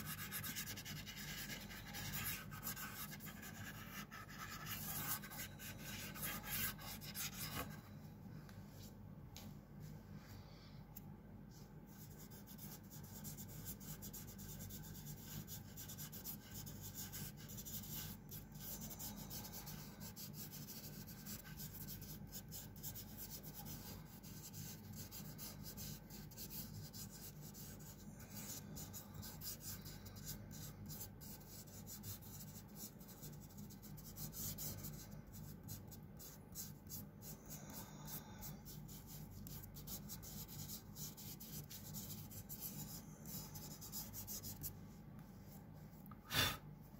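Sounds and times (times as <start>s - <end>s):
fingers rubbing pastel on paper: 0.0s - 7.7s, 12.0s - 45.6s.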